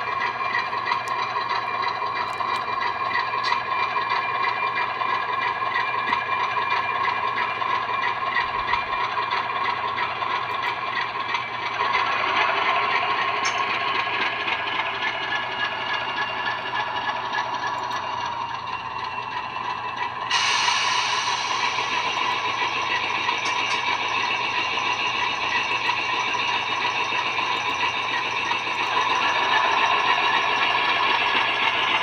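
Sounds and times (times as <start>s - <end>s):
diesel engine sound from small speaker: 0.0s - 32.0s.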